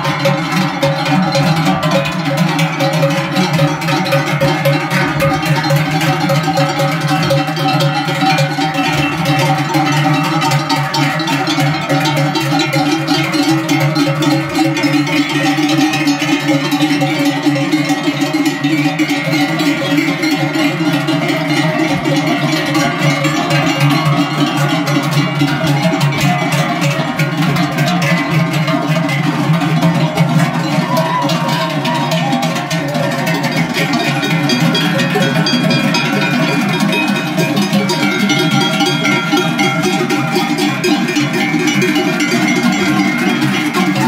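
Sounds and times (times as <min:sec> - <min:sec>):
cowbells clanging: 0:00.0 - 0:44.0.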